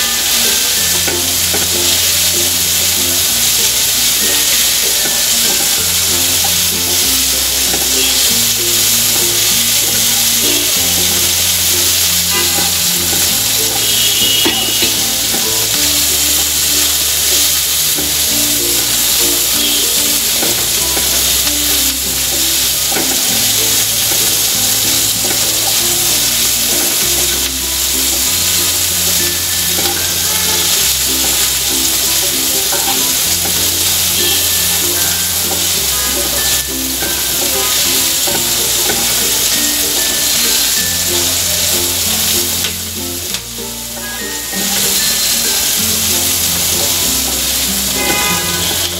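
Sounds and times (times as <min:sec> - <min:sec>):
background music with bass line: 0:00.0 - 0:48.9
onion sizzling in oil: 0:00.0 - 0:48.9
wooden spatula stirring: 0:00.2 - 0:44.1.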